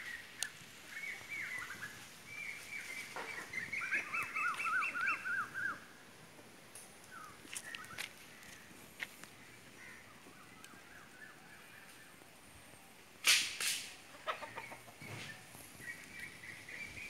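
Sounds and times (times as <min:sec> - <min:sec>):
birds chirping: 0:00.0 - 0:06.0, 0:07.0 - 0:13.0, 0:14.0 - 0:17.0.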